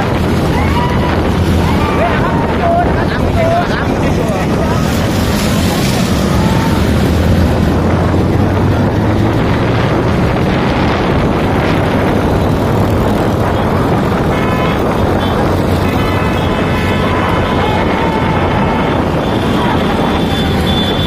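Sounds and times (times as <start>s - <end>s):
motorcycle engines running: 0.0s - 21.0s
wind rushing over microphone: 0.0s - 21.0s.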